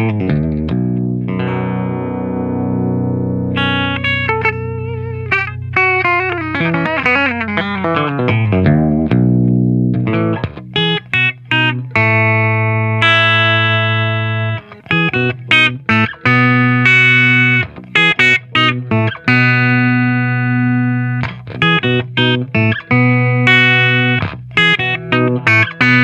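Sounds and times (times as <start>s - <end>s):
distorted electric guitar chords: 0.0s - 26.0s.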